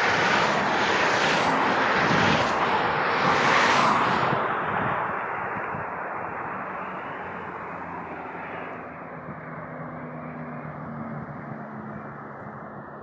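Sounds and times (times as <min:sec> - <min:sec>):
passing vehicle road noise: 0:00.0 - 0:13.0.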